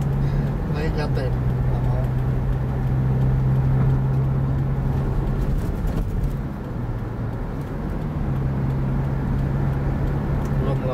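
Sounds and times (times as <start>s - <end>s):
car engine drone: 0.0s - 10.9s
tyre and road rumble: 0.0s - 10.9s.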